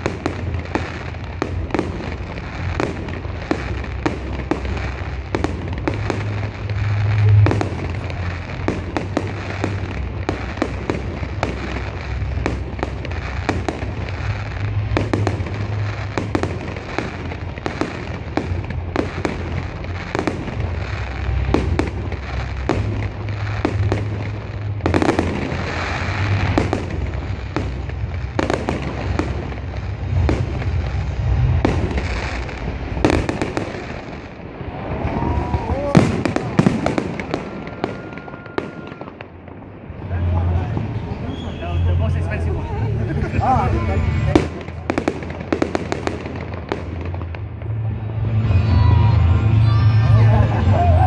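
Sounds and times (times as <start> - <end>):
fireworks bursting: 0.0 - 51.0.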